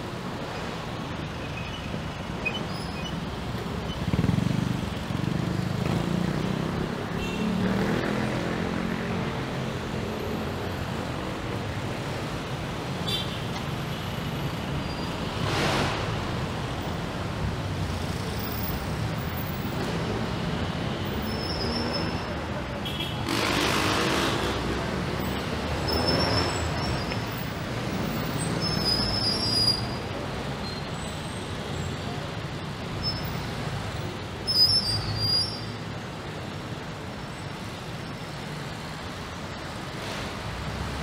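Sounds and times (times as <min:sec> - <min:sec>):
street traffic din: 0:00.0 - 0:41.0.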